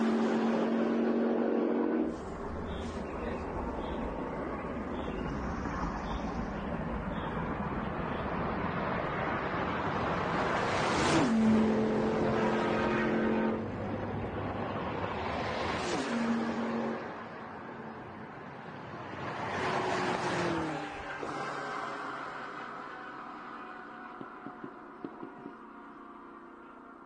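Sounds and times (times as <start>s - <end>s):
racing cars passing by: 0.0s - 27.0s.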